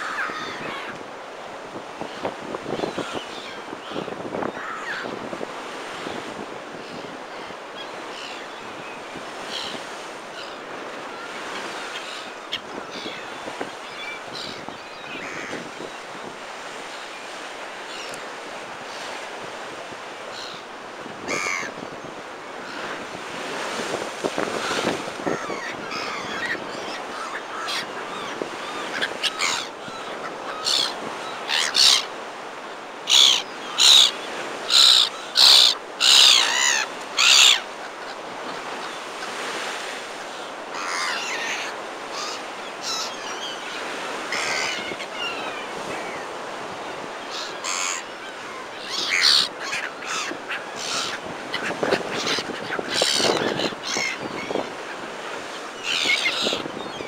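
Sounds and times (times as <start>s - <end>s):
gulls calling: 0.0s - 57.0s.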